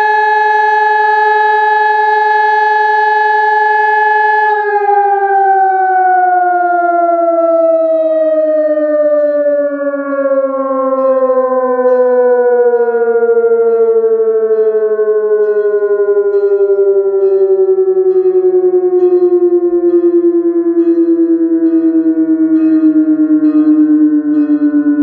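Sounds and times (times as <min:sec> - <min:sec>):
fire siren sliding lower: 0:00.0 - 0:25.0.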